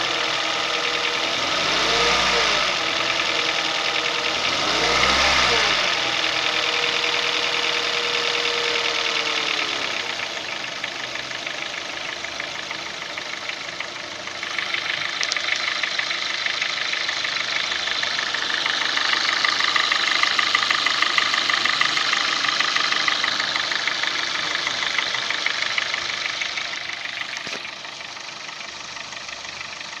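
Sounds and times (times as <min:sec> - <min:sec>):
car engine idling with metallic rattle: 0:00.0 - 0:30.0.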